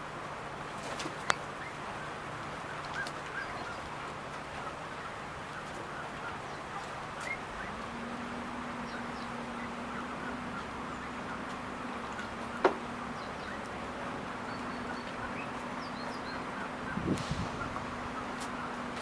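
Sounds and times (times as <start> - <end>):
birds chirping: 0.4 - 19.0.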